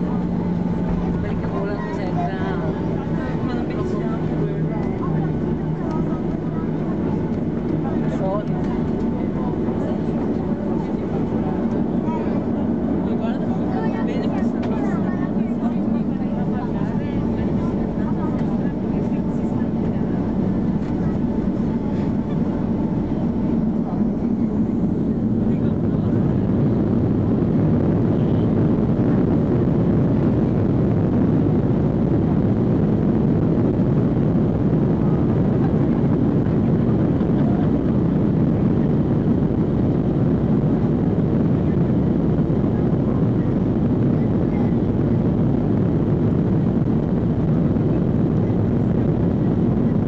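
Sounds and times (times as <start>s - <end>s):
airplane cabin jet engine noise: 0.0s - 50.0s.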